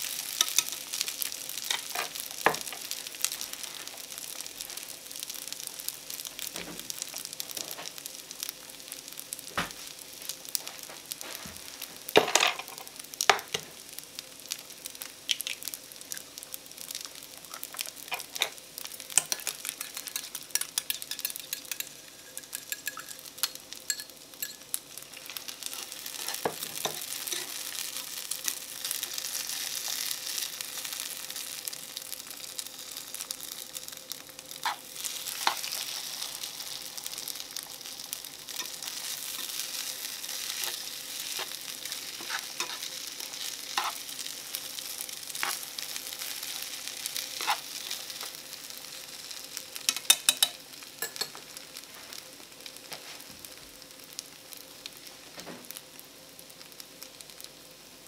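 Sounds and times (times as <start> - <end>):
rice sizzling in a frying pan: 0.0 - 58.0.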